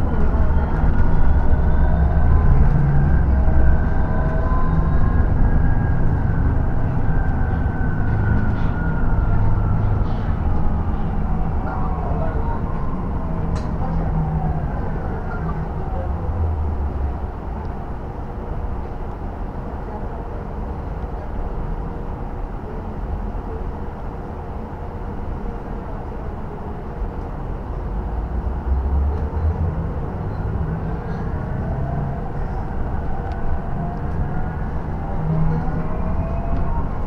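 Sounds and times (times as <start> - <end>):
bus road rumble and hum: 0.0 - 37.0.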